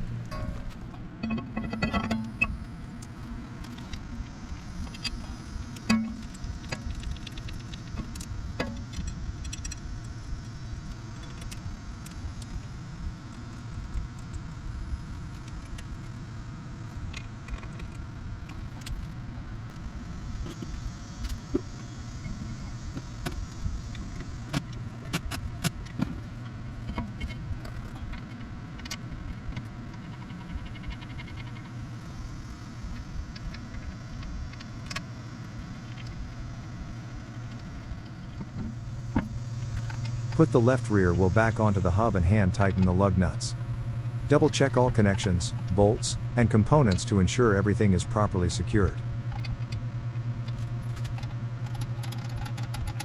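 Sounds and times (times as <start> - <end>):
steady low hum: 0.0 - 53.0
steady low rumble: 0.0 - 53.0.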